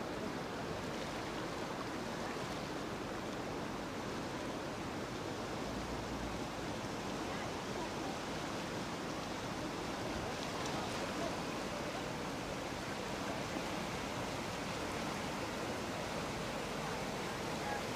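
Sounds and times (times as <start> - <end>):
river water rushing: 0.0 - 17.9.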